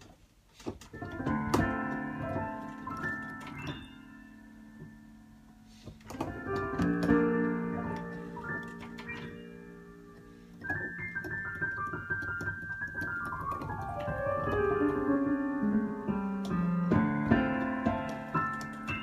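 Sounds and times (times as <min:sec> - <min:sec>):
piano playing: 0:00.8 - 0:19.0.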